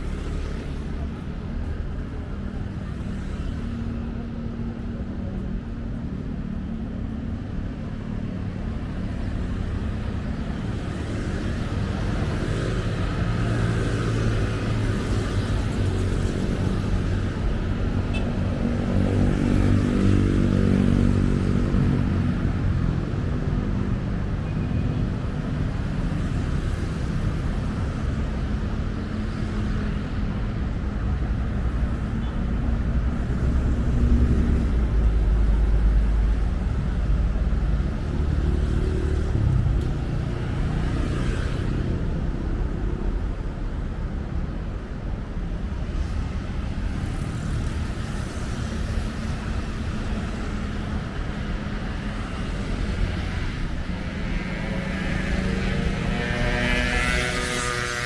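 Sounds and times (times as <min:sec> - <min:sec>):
city road traffic: 0:00.0 - 0:58.0.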